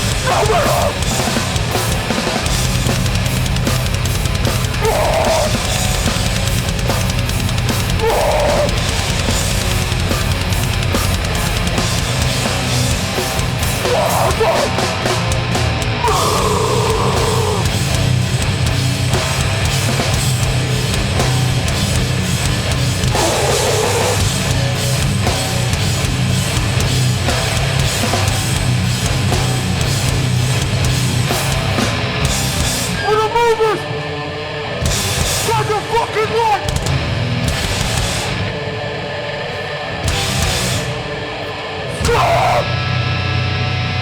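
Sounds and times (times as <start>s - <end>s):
metal band playing live: 0.0s - 44.0s.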